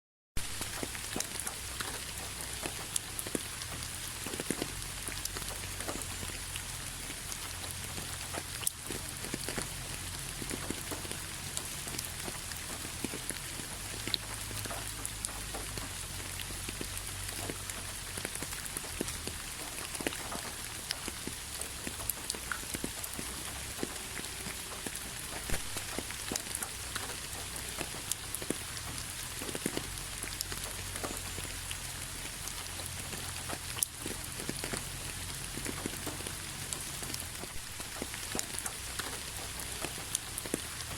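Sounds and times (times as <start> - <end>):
rain on a hard surface: 0.4 - 40.9.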